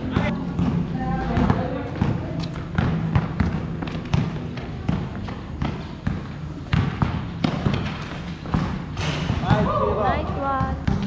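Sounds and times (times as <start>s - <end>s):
basketball bouncing on concrete: 0.0s - 11.0s.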